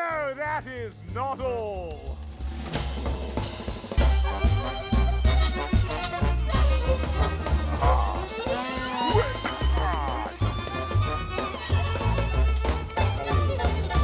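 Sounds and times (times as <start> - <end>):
instrumental music with bass and drums: 0.0 - 14.0.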